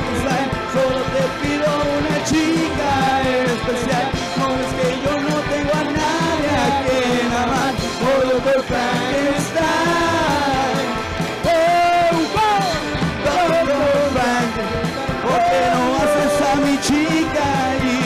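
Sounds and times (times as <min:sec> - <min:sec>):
lead vocal singing: 0:00.0 - 0:18.0
rockabilly band playing: 0:00.0 - 0:18.0.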